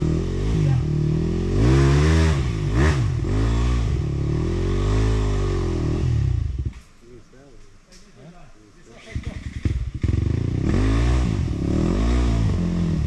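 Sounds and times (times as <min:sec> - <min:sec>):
motorcycle engine revving: 0:00.0 - 0:06.8, 0:09.0 - 0:13.0.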